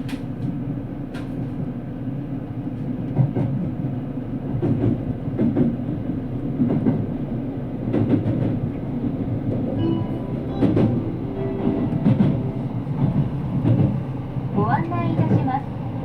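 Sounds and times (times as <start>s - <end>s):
clack of rail joints: 0.0s - 1.7s, 2.7s - 7.2s, 7.8s - 15.8s
rumble of wheels on rail: 0.0s - 16.0s.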